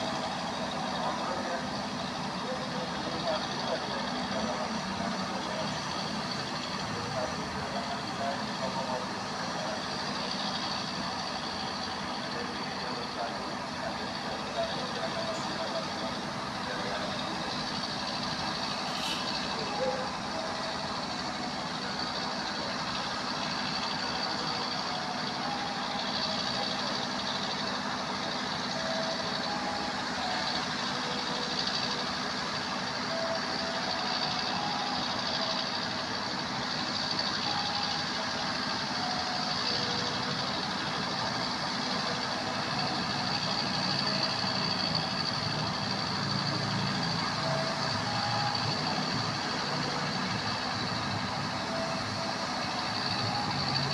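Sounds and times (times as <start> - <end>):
heavy vehicle running noise: 0.0 - 53.9.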